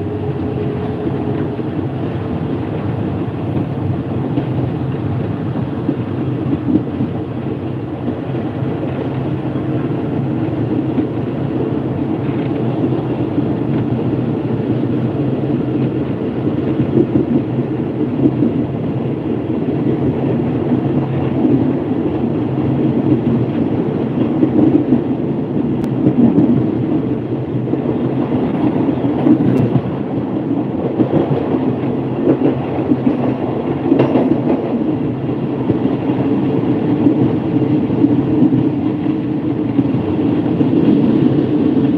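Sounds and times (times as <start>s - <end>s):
rushing wind: 0.0s - 41.9s
train wheels rumbling on rails: 0.0s - 41.9s.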